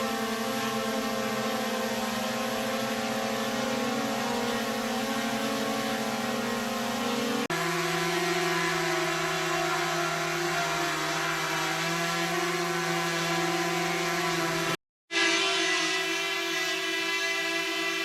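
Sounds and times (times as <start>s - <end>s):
drone propellers whirring: 0.0s - 18.0s.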